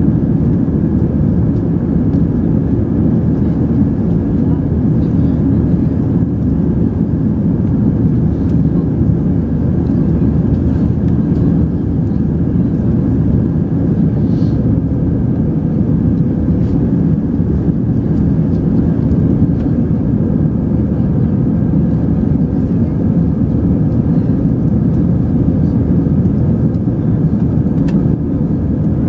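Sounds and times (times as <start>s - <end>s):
airliner engines roaring: 0.0s - 29.0s.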